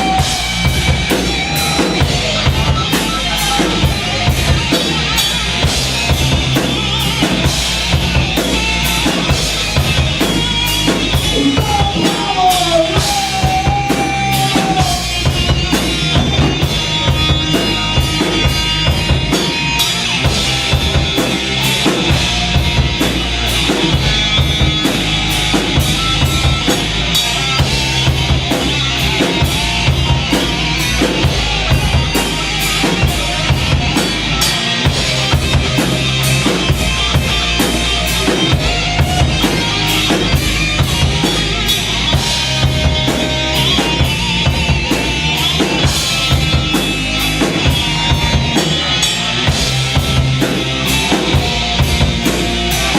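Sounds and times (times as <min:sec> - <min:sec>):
rock band instrumental: 0:00.0 - 0:52.9.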